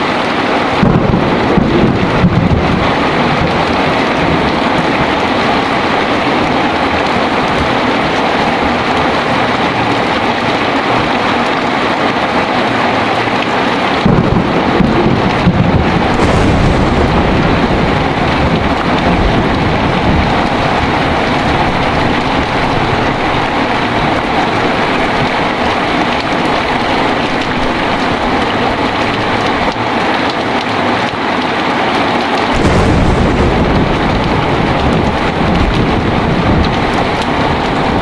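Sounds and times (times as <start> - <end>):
heavy rain pouring: 0.0 - 38.0
thunder rumbling: 0.5 - 31.0, 31.8 - 38.0.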